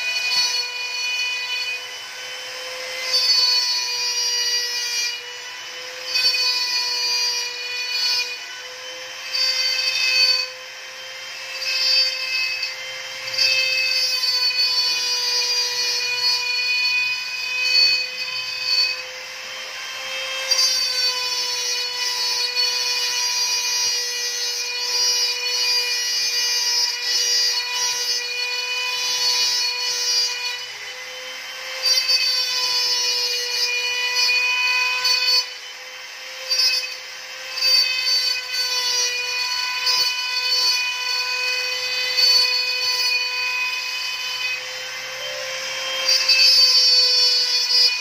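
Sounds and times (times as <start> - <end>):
router spindle motor whine: 0.0 - 48.0.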